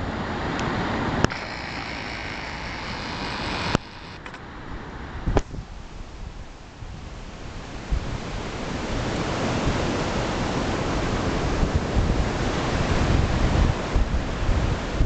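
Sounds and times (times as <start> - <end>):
waves breaking on beach: 0.0 - 15.0
wind on microphone: 0.0 - 15.0.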